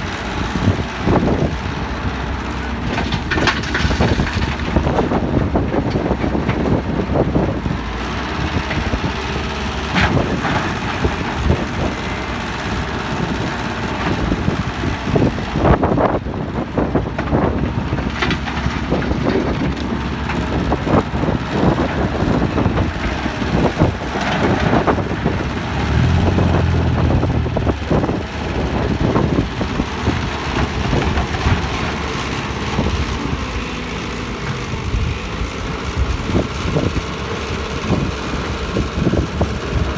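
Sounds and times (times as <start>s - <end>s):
diesel excavator engine droning: 0.0s - 39.9s.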